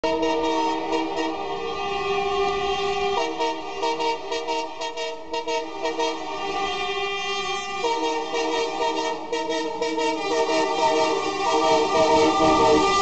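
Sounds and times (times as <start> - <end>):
diesel locomotive horn blast: 0.0 - 13.0.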